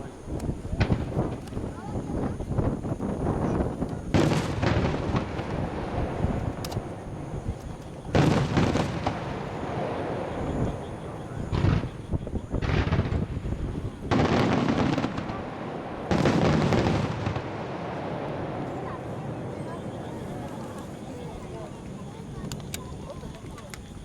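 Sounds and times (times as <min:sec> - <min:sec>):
firework shells booming: 0:00.0 - 0:23.5
fireworks rumbling and crackling: 0:00.0 - 0:24.0.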